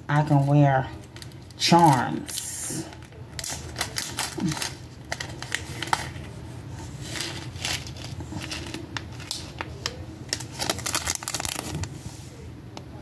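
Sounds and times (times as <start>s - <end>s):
low steady hum: 0.0s - 13.0s
plastic packet crinkling: 0.2s - 6.4s, 7.0s - 12.0s.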